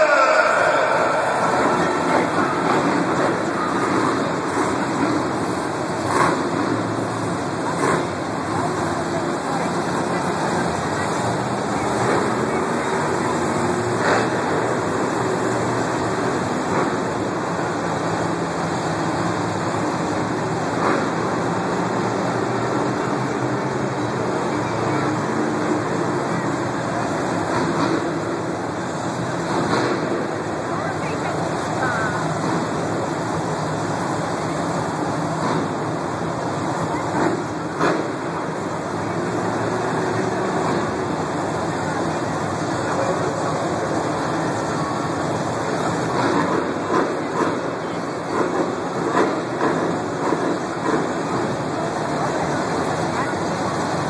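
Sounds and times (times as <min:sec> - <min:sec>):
monster truck engines droning: 0:00.0 - 0:54.0
stadium crowd noise: 0:00.0 - 0:54.0.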